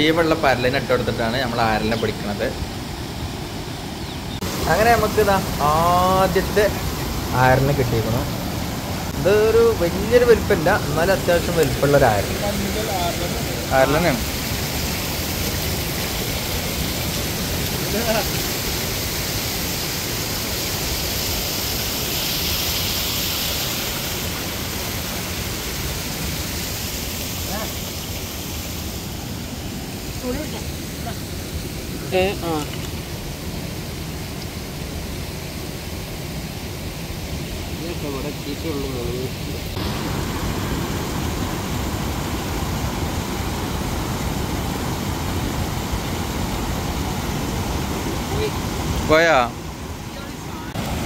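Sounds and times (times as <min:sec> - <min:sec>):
water rushing over weir: 0:04.4 - 0:51.0.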